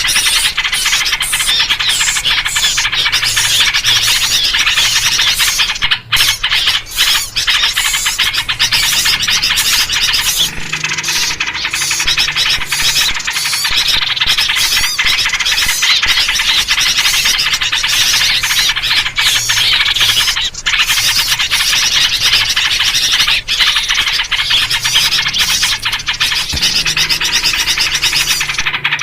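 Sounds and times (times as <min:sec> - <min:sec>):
agitated small birds chattering: 0:00.0 - 0:29.0.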